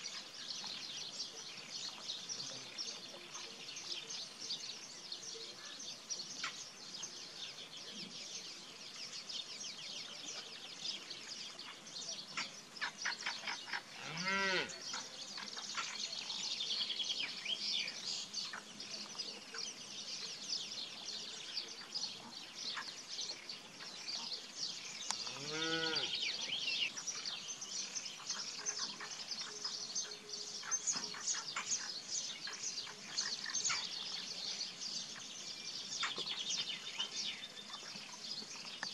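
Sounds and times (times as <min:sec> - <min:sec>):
birdsong chirping: 0:00.0 - 0:38.9.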